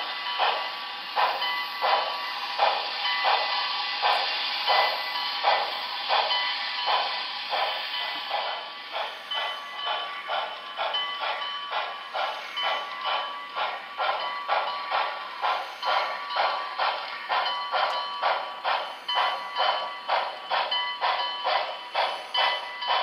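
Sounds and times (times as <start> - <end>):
steam locomotive chuffs from speaker: 0.0 - 23.0.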